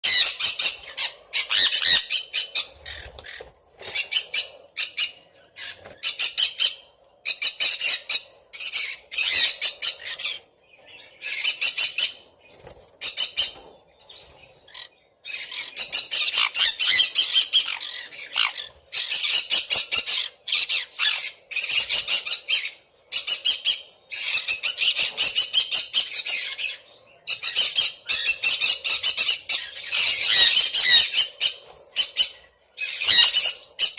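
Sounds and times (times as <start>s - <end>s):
parrots screeching: 0.0s - 10.4s, 11.2s - 12.2s, 13.0s - 13.6s, 14.7s - 33.9s.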